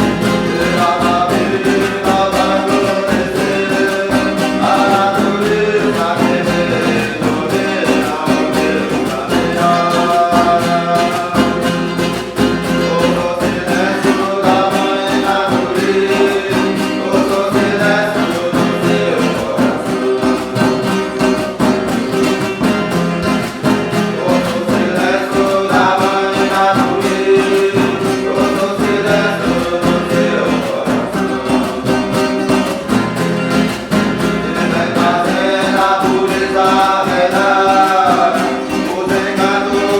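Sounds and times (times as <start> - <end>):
person chanting: 0.0 - 32.9, 34.2 - 39.9
strummed acoustic guitar: 0.0 - 39.9.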